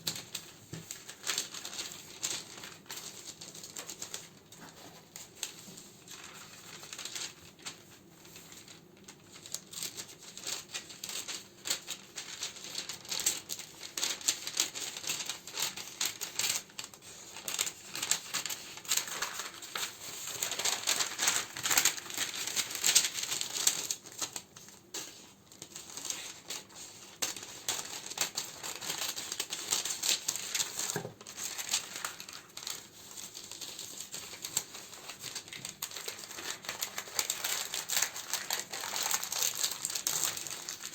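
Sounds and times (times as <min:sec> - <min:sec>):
plastic and paper crinkling: 0:00.0 - 0:40.9.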